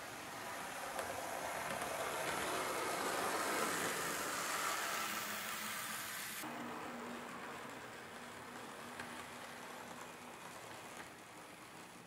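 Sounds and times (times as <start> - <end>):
model railcar motor whir: 0.0 - 12.0.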